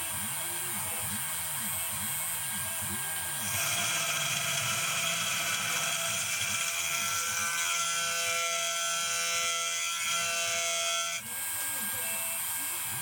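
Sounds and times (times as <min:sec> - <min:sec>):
milling machine motor whine: 0:00.0 - 0:13.0.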